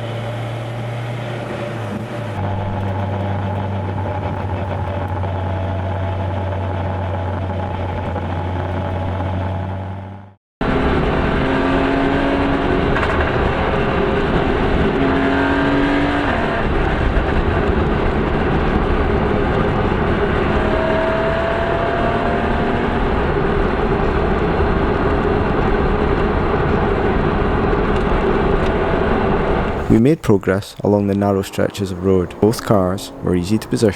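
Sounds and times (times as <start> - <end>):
car engine running: 0.0 - 33.9
wind and road noise: 0.0 - 33.9.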